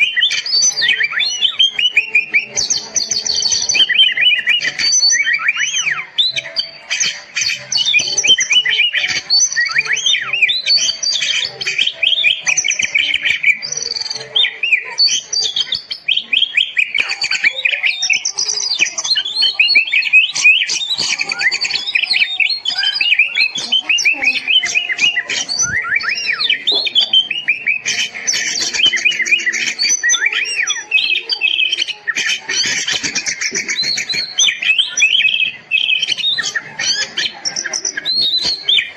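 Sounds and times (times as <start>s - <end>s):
bird singing varied whistles: 0.0s - 38.9s.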